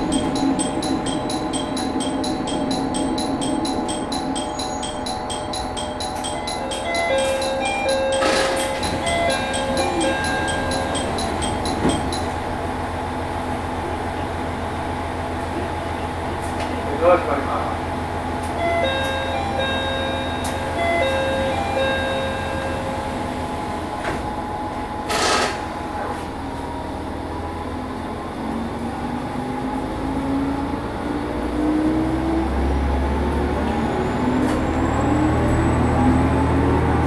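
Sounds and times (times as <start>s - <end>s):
diesel railcar engine running: 0.0s - 37.0s.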